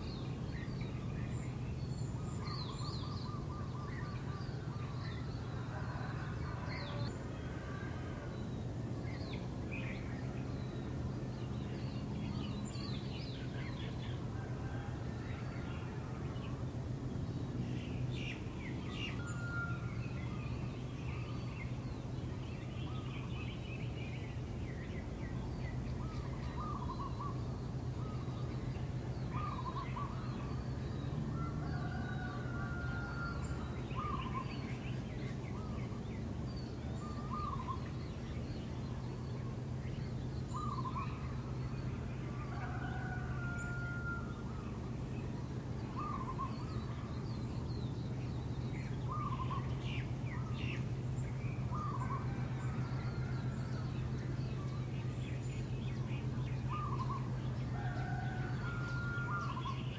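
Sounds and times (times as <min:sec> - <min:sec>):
small birds chirping: 0:00.0 - 0:14.8, 0:15.4 - 0:59.9
steady low hum: 0:00.0 - 0:59.9.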